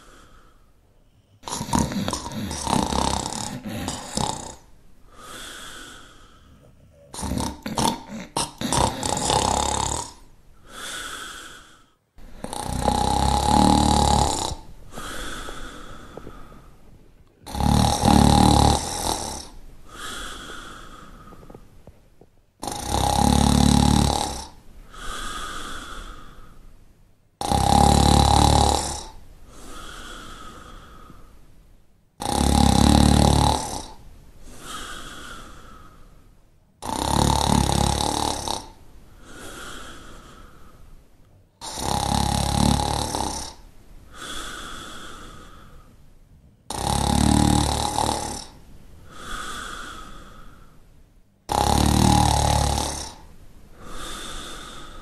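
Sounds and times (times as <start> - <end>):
dog snoring: 1.1 - 21.6, 22.6 - 26.4, 27.4 - 31.1, 32.2 - 35.9, 36.8 - 40.5, 41.6 - 45.7, 46.7 - 50.5, 51.5 - 55.0.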